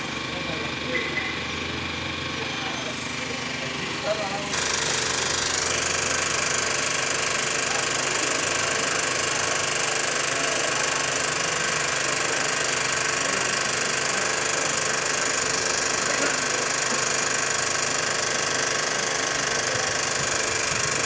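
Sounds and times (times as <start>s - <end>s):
small engine knocking: 0.0s - 21.0s.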